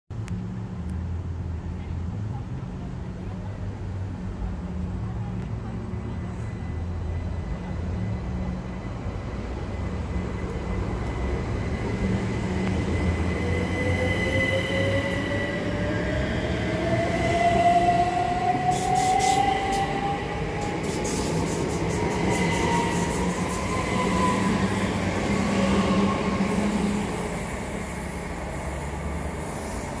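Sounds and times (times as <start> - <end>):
train wheels rumbling on rail: 0.4 - 30.0.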